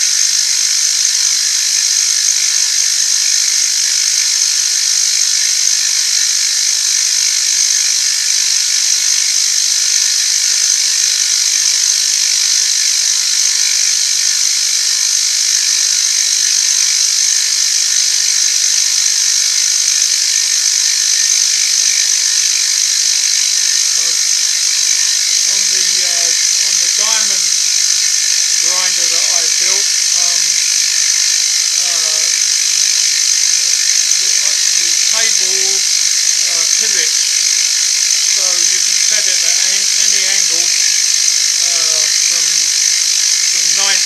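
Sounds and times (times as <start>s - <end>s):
machine tool cutting metal: 0.0s - 44.0s.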